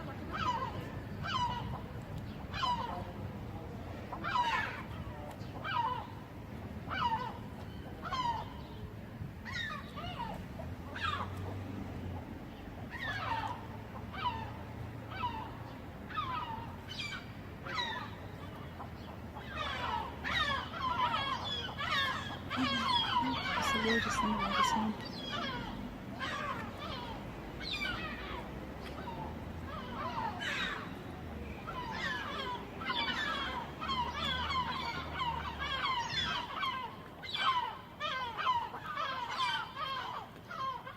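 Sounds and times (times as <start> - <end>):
gulls calling: 0.0 - 11.6, 12.5 - 40.9.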